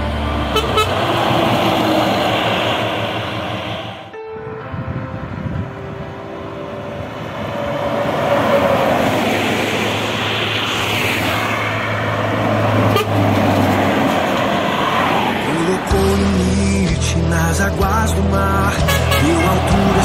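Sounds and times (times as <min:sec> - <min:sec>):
trucks driving past: 0:00.0 - 0:04.2, 0:05.2 - 0:20.0.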